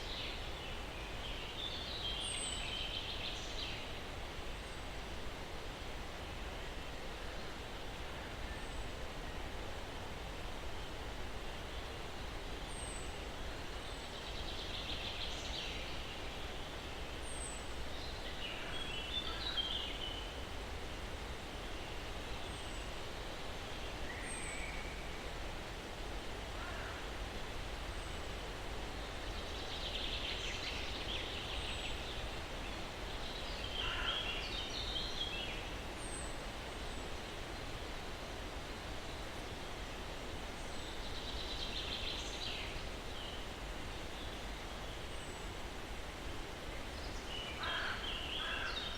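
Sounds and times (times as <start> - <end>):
breeze in pine trees: 0.0 - 48.9.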